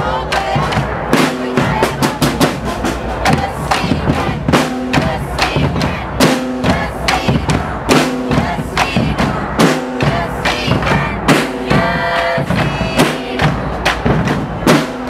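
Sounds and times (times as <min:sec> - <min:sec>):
bass drums beating: 0:00.0 - 0:15.0
snare drums beating: 0:00.0 - 0:15.0.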